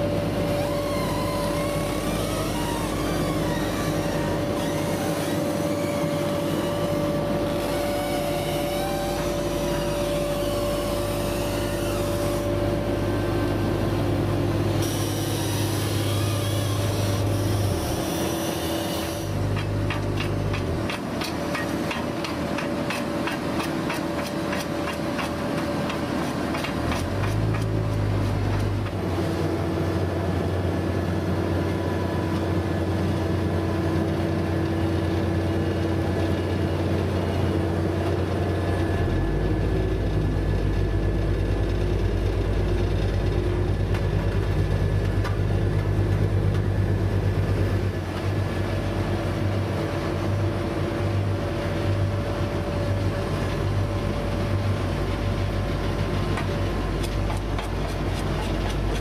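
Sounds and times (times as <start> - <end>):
asphalt paver diesel drone: 0.0 - 59.0.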